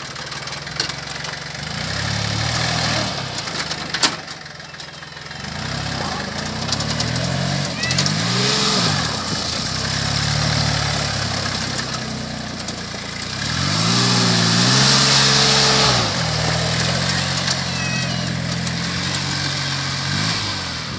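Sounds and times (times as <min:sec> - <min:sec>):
tractor diesel engine idling and revving: 0:00.0 - 0:20.9.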